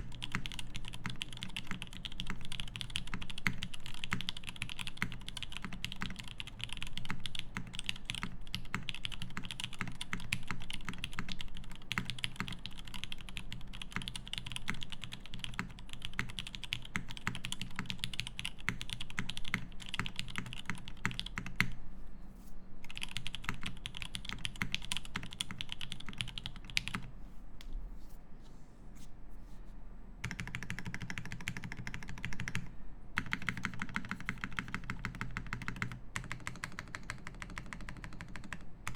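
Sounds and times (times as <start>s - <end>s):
mechanical keyboard typing: 0.0s - 21.8s, 22.8s - 27.1s, 30.2s - 38.9s.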